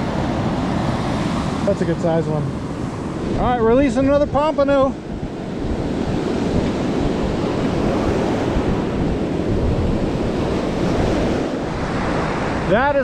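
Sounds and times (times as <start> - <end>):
ocean surf breaking on shore: 0.0 - 13.0
wind buffeting microphone: 0.0 - 13.0.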